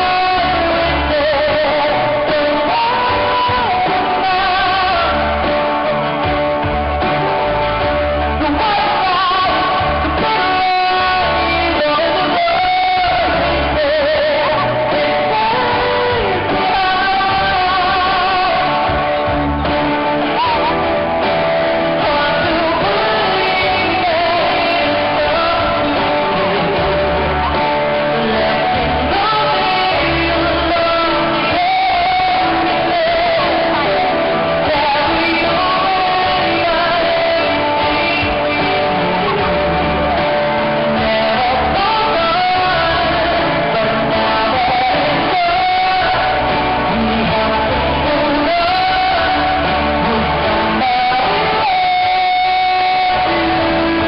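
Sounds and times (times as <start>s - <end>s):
guitar: 0.0s - 54.0s
live pop-rock band through speakers: 0.0s - 54.0s
person singing: 0.0s - 54.0s.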